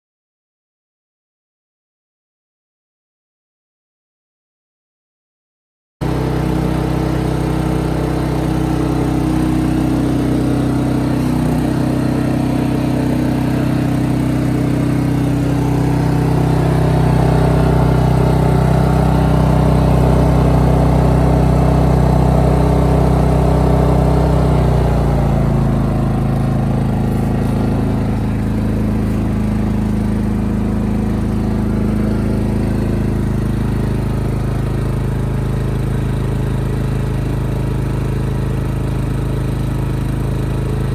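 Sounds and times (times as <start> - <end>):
portable generator running: 6.0 - 40.9.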